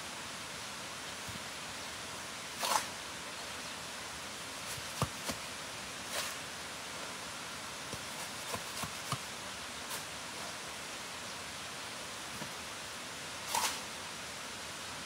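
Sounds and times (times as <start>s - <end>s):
rain hiss: 0.0s - 15.0s
rustle: 0.0s - 15.0s.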